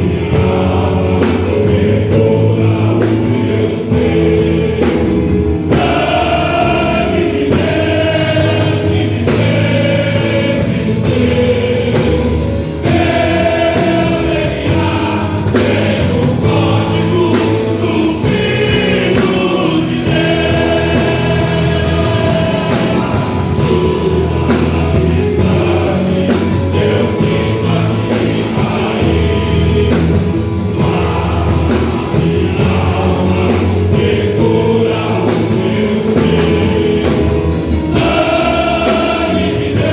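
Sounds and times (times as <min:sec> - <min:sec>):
choir singing gospel song: 0:00.0 - 0:39.9
instrumental accompaniment: 0:00.0 - 0:39.9.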